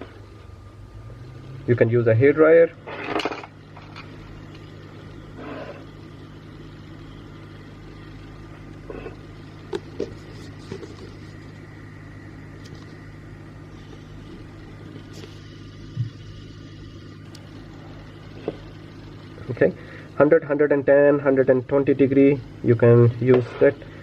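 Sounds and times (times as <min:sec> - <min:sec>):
hot air gun fan humming: 0:00.0 - 0:24.0.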